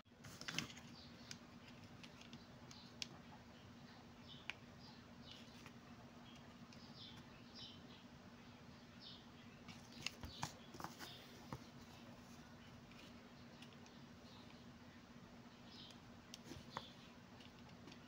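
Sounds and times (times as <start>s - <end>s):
faint low hum: 0.1s - 18.0s.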